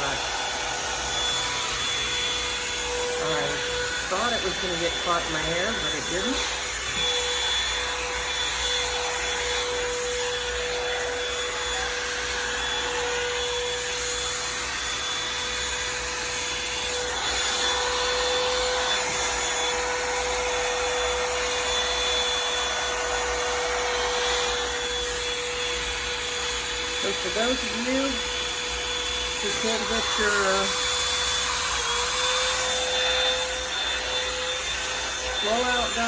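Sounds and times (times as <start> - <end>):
hot air brush whining: 0.0 - 36.0.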